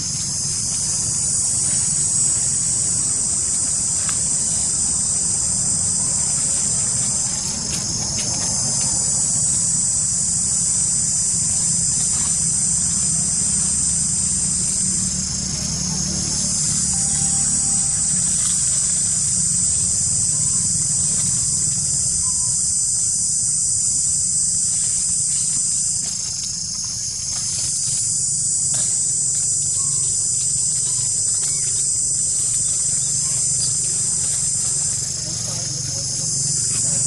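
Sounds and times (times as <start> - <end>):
insects buzzing: 0.0 - 37.0
steady low hum: 0.0 - 37.0.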